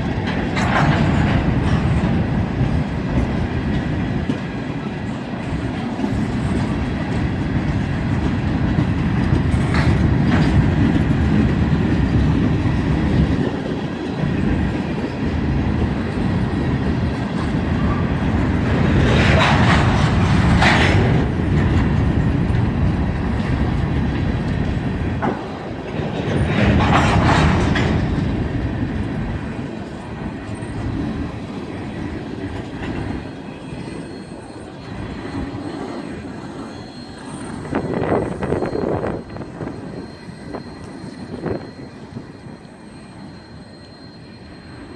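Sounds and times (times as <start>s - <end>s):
wheels clattering over rail joints: 0.0s - 44.8s
freight train rumbling past: 0.0s - 44.9s.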